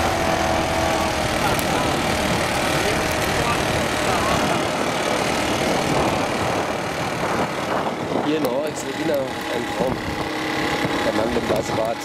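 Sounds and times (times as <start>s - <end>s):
vehicle rumbling over grass: 0.0s - 11.9s.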